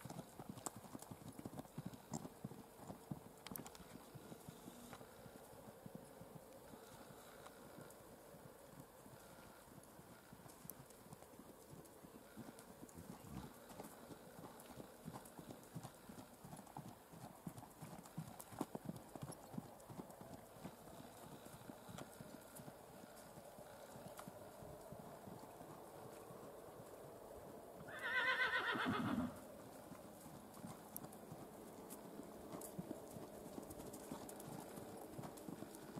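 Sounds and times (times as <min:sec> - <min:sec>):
hoofbeats on soft dirt: 0:00.0 - 0:35.9.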